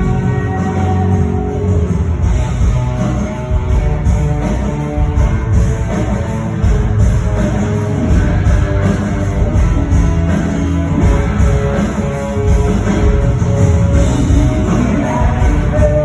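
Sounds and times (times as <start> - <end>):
cymbals keeping a beat: 0.0 - 16.0
electric guitar: 0.0 - 16.0
rock band playing live: 0.0 - 16.0.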